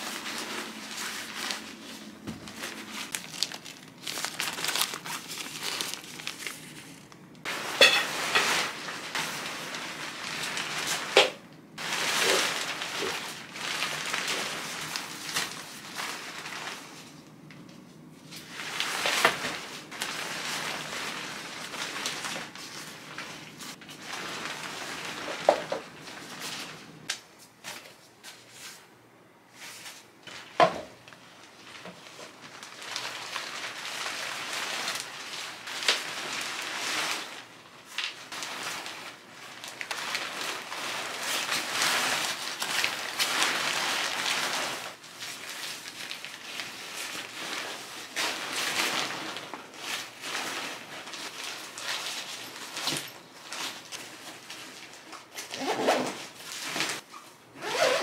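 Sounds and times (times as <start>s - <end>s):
tent fabric rustling and crinkling: 0.0s - 28.8s, 31.2s - 58.0s.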